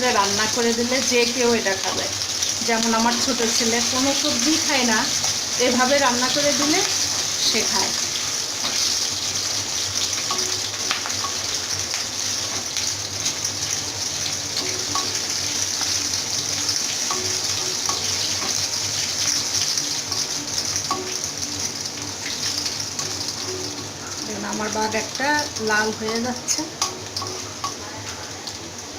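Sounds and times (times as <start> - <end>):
food sizzling in hot oil: 0.0 - 28.9.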